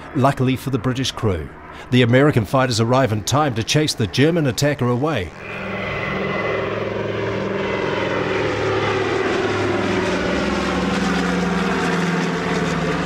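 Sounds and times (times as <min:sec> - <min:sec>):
propeller aircraft passing overhead: 0:00.0 - 0:13.0.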